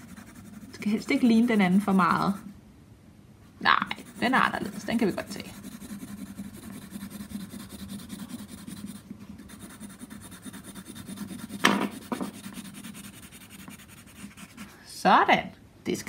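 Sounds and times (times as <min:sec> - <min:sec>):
pencil scratching on paper: 0:00.0 - 0:02.5, 0:03.9 - 0:14.8.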